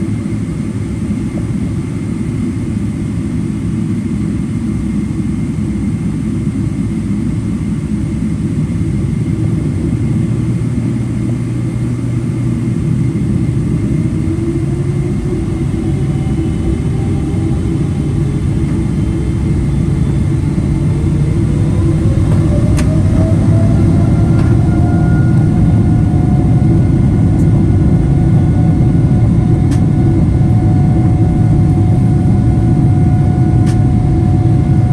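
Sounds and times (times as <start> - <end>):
jet engine whine rising: 0.0 - 34.9
jet engines low rumble: 0.0 - 34.9.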